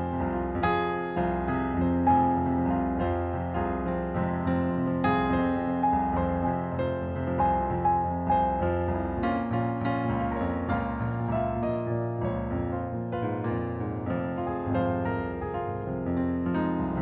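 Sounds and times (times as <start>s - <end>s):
piano music over low bass: 0.0s - 17.0s.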